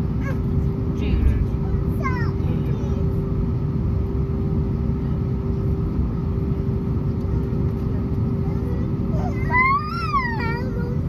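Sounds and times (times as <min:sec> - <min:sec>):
idling jet engines rumbling: 0:00.0 - 0:11.0
steady cabin hum: 0:00.0 - 0:11.0.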